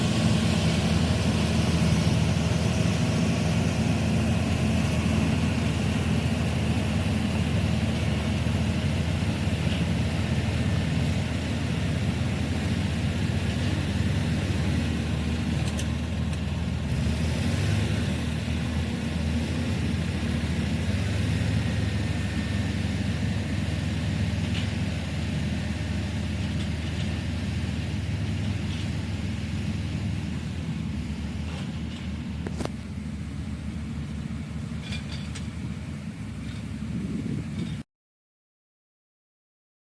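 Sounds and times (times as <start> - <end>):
bulldozer diesel engine running: 0.0 - 37.8.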